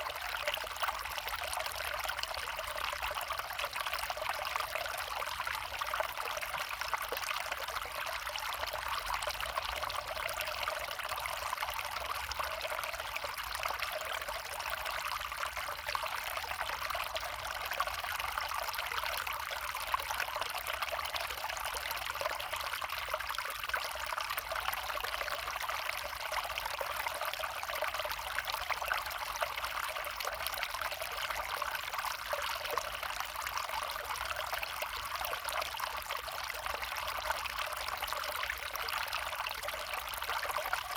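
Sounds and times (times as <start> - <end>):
small brook flowing: 0.0 - 40.9.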